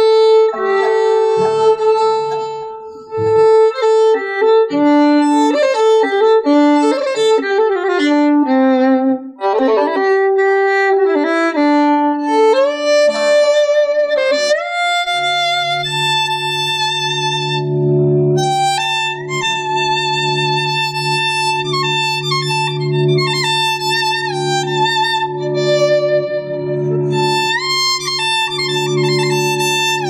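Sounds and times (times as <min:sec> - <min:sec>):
lower accompaniment: 0:00.0 - 0:30.0
violin melody: 0:00.0 - 0:30.0.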